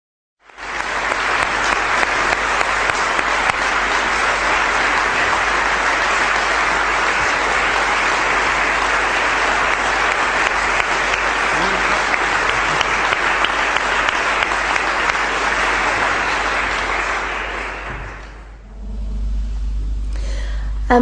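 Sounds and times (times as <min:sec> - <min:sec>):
audience applauding: 0:00.5 - 0:18.6.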